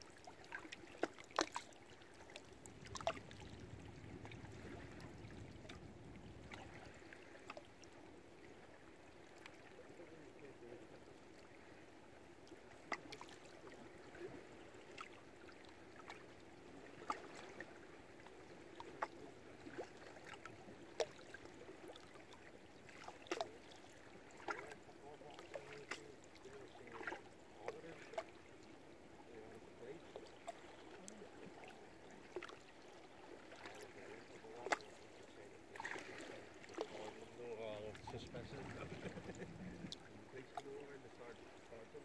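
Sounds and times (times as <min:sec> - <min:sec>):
water lapping and trickling: 0:00.0 - 0:42.0.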